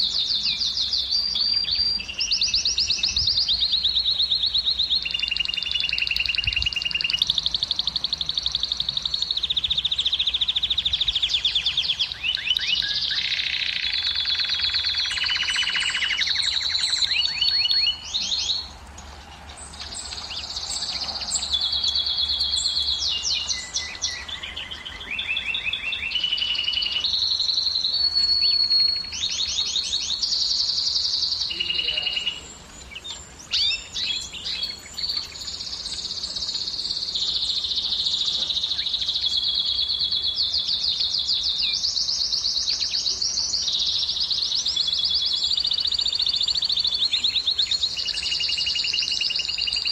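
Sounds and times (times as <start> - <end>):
canary singing trills: 0.0 - 18.8, 19.5 - 49.9.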